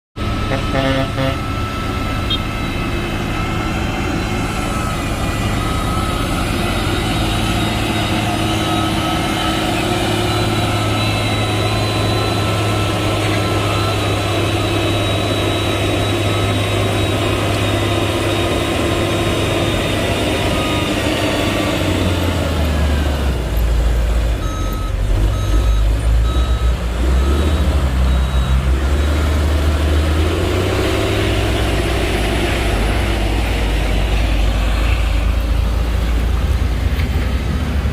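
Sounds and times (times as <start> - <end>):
reversing alarm beeping: 0.2 - 36.2
heavy diesel engine under load: 0.2 - 37.9.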